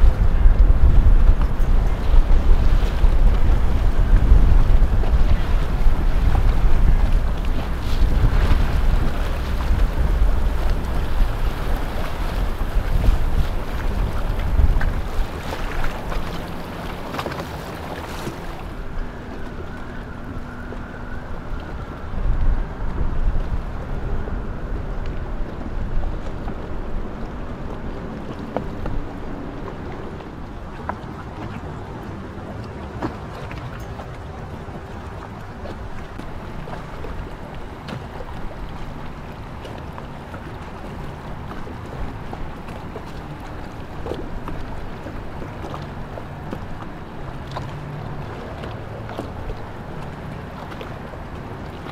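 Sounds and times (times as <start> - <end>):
boat motor running: 0.0 - 51.9
waterside ambience: 0.0 - 51.9
wind buffeting microphone: 0.0 - 51.9.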